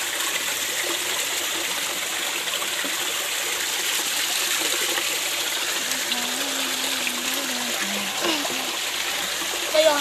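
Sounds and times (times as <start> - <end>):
stream running over rocks: 0.0 - 10.0.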